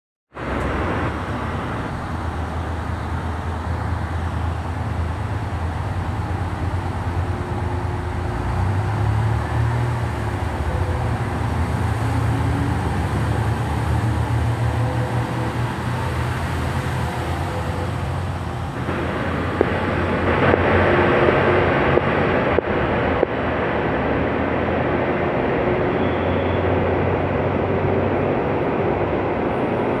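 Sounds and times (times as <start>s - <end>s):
train rushing noise: 0.3s - 30.0s
diesel train engine humming: 0.4s - 30.0s.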